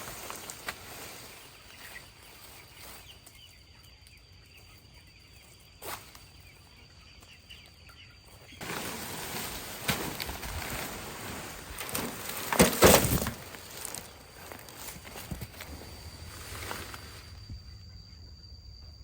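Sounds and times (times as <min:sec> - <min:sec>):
chickens clucking: 0:00.0 - 0:17.6.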